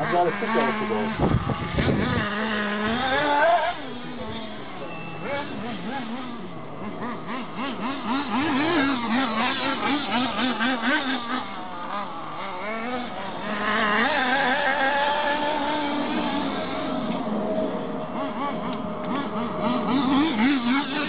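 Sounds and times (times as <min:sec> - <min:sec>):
small nitro engine revving: 0:00.0 - 0:21.0.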